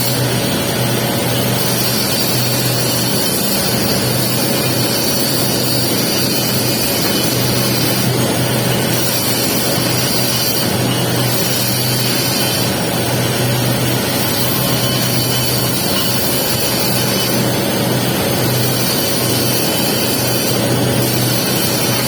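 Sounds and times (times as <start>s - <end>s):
steady low hum: 0.0s - 22.0s
welding arc crackling and hissing: 0.0s - 22.0s.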